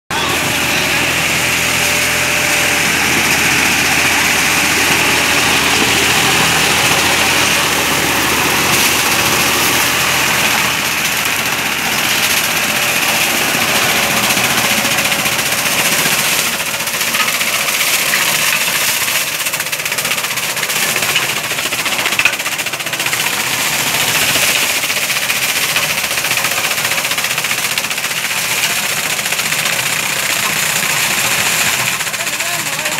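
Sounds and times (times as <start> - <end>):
tractor diesel engine under load: 0.0 - 32.9
cutter shredding stalks: 0.1 - 32.9.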